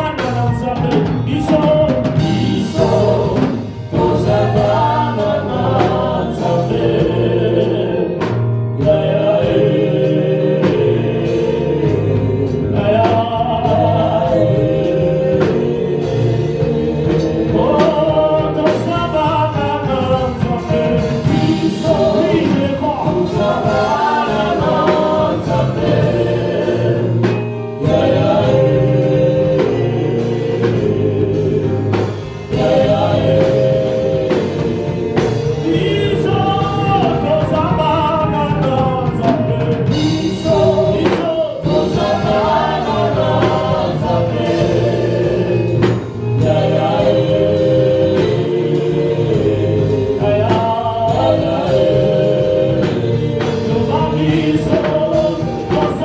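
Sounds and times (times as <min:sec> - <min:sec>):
band with bass and drums: 0:00.0 - 0:56.0
choir singing: 0:00.0 - 0:56.0.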